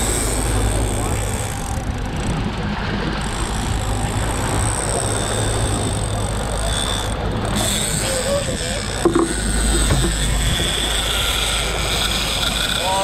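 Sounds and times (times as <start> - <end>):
outboard motor running: 0.0 - 13.0
water splashing past hull: 0.0 - 13.0.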